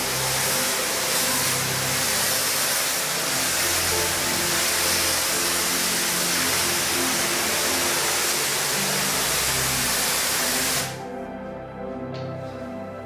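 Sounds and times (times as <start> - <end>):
pressure washer spraying tiles: 0.0 - 11.0.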